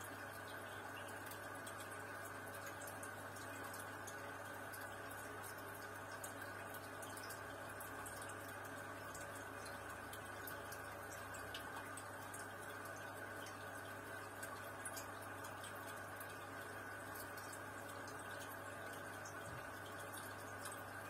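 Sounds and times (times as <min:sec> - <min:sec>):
pump humming: 0:00.0 - 0:21.0.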